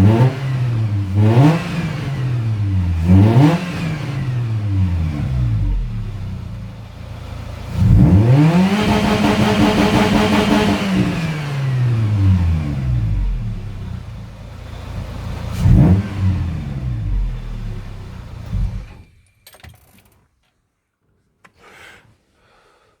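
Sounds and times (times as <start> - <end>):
car engine revving: 0.0 - 19.1.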